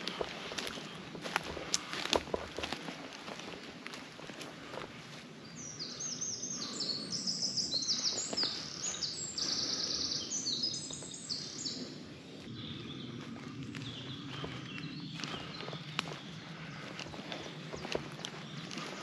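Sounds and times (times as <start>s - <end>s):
footsteps on forest floor: 0.0s - 7.0s, 7.6s - 19.0s
songbird singing: 0.0s - 19.0s.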